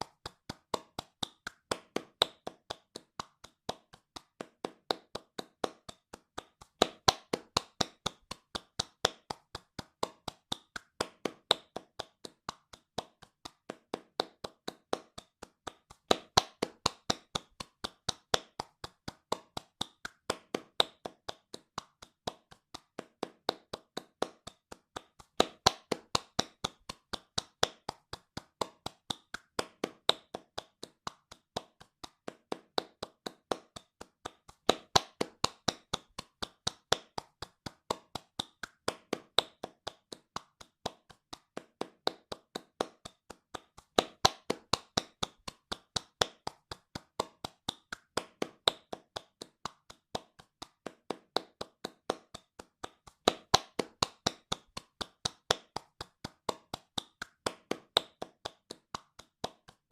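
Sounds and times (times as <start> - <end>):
hands clapping fast: 0.0 - 59.9.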